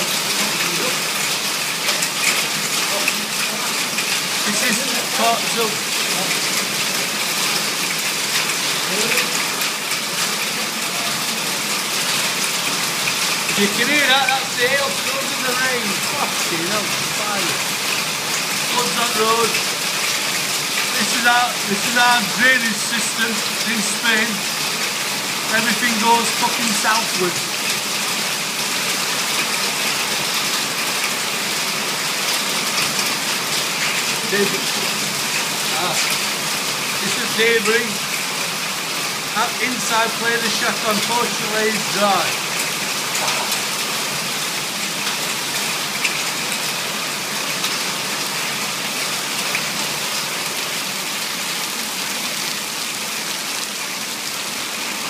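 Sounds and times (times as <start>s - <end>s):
hailstones ticking: 0.0s - 53.8s
heavy rain: 0.0s - 55.0s
rainwater pouring off roof: 0.0s - 55.0s.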